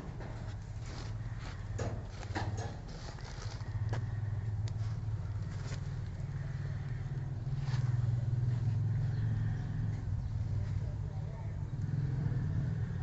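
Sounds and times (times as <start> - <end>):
low machine hum: 0.0 - 11.9.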